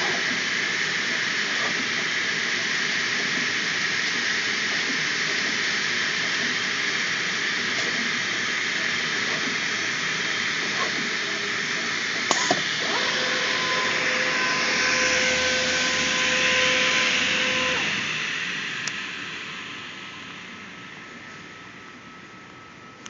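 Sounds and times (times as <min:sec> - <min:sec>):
vacuum blower hissing: 0:00.0 - 0:22.4
steady machine whine: 0:00.0 - 0:23.0.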